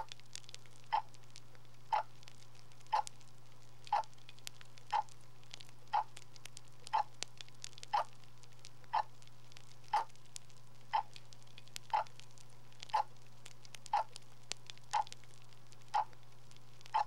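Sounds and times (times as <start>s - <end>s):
regular ticking: 0.0s - 17.0s.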